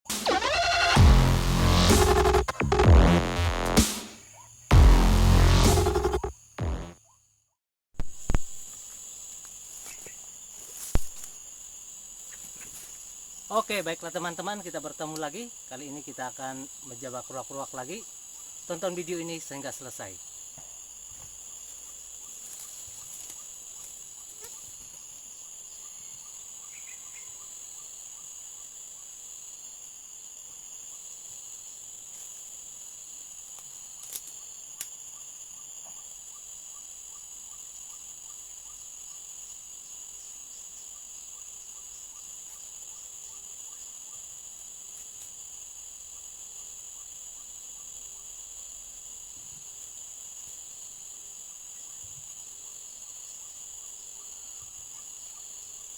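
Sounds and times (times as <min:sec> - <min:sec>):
insects chirping: 0:00.1 - 0:55.9.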